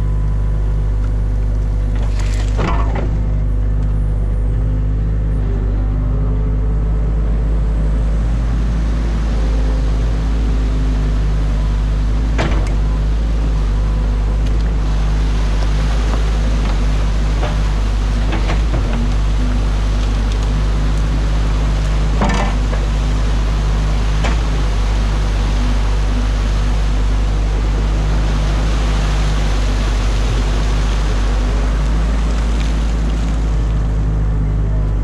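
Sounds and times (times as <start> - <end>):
diesel engine running: 0.0 - 35.0
water rushing over weir: 0.7 - 35.0.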